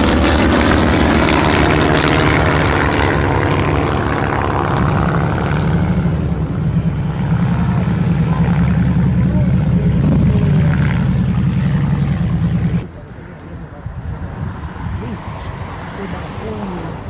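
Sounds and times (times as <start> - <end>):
light aircraft engine droning: 0.0 - 17.0.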